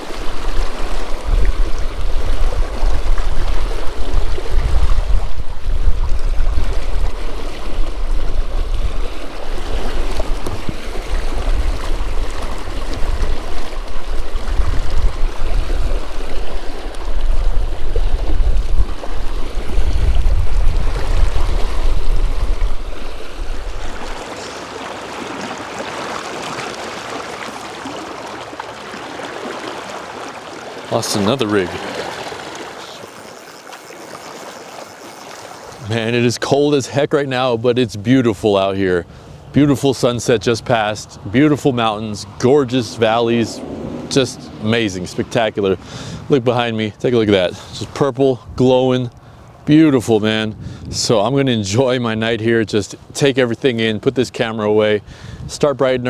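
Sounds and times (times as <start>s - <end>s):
river current rushing and splashing: 0.0s - 50.3s.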